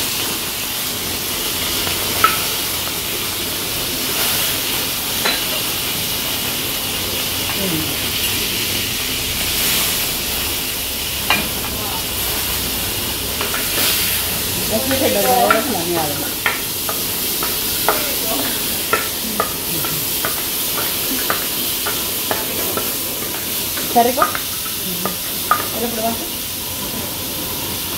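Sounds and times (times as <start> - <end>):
seafood sizzling in a wok: 0.0 - 27.9.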